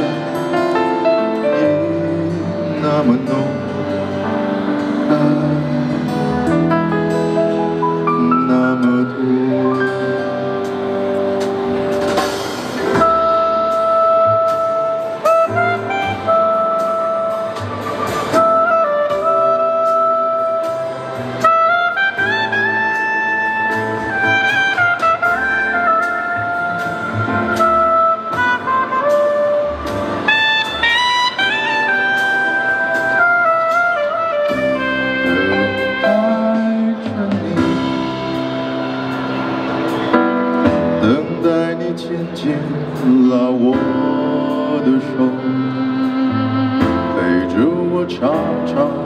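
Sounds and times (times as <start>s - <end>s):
pop ballad instrumental: 0.0s - 49.0s.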